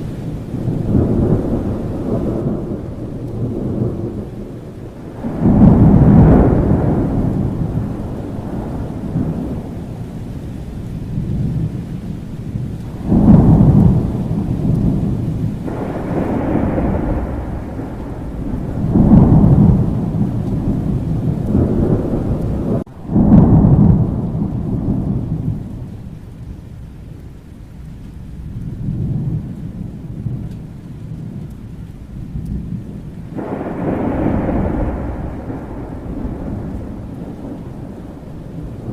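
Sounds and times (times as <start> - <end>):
rain falling steadily: 0.0 - 38.9
rolls of thunder: 0.2 - 26.1, 28.4 - 38.9.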